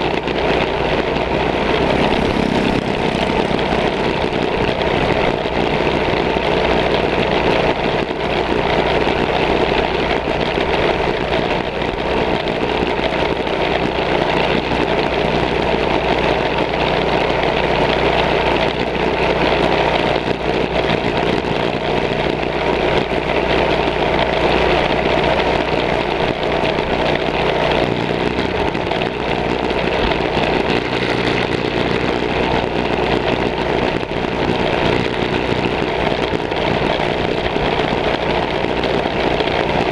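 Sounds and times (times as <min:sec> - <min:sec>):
mini bike engines running: 0:00.0 - 0:39.9.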